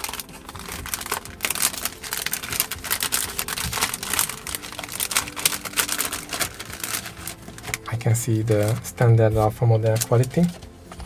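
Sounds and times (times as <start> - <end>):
cellophane bag crinkling: 0.0 - 9.0.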